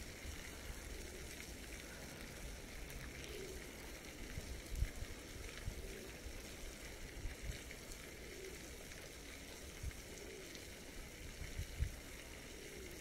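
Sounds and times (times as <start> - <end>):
water fountain splashing: 0.0 - 13.0.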